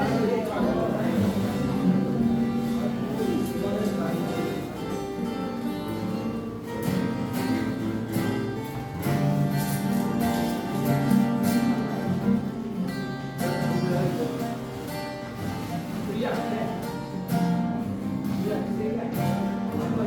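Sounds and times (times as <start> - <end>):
acoustic guitars strumming chords: 0.0 - 20.0.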